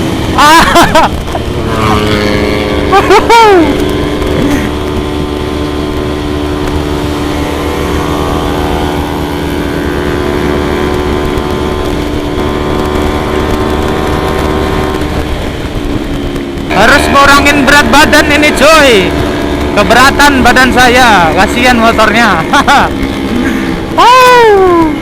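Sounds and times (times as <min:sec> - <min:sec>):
motorcycle engine running: 0:00.0 - 0:25.0
wind and road rumble: 0:00.0 - 0:25.0.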